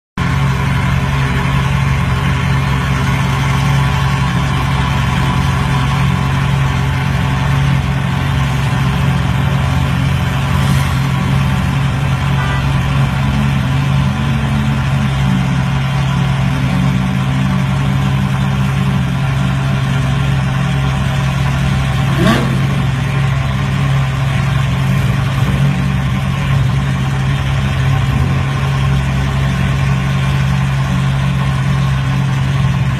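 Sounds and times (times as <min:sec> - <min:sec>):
car engine idling: 0:00.2 - 0:32.9.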